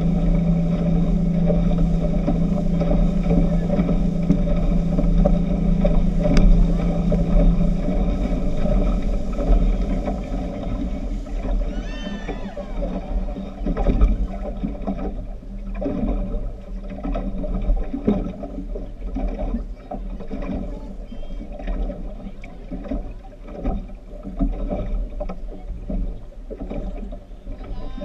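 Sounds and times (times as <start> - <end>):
speedboat engine running: 0.0 - 28.0.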